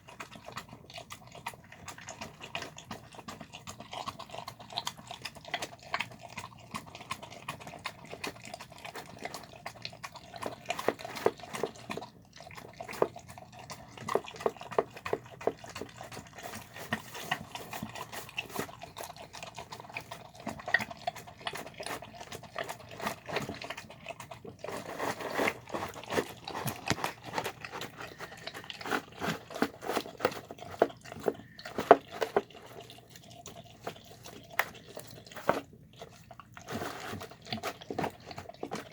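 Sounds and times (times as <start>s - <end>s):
dog eating wet food: 0.0s - 38.9s.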